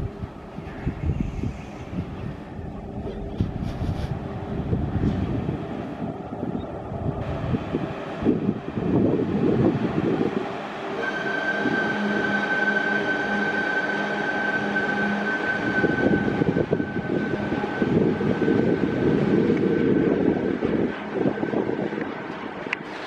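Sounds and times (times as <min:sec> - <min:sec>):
high whine: 0:00.0 - 0:23.0.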